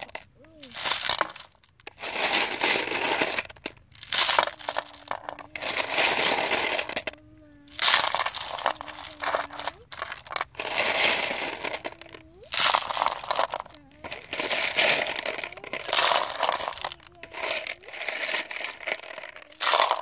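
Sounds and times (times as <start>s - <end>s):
snail shells clattering in metal pan: 0.0s - 20.0s.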